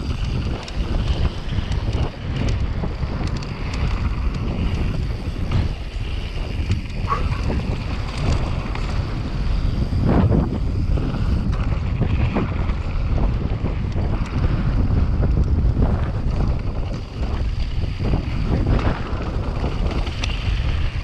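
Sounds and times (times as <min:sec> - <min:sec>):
bike tyres rumbling on dirt: 0:00.0 - 0:21.0
gravel clicks and rattles: 0:00.0 - 0:21.0
wind buffeting microphone: 0:00.0 - 0:21.0.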